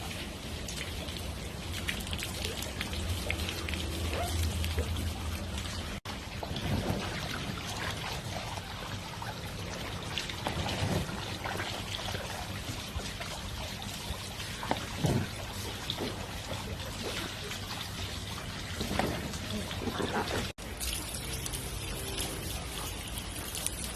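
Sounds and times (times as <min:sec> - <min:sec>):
water pouring and trickling: 0:00.0 - 0:23.9
water splashes: 0:00.0 - 0:23.9.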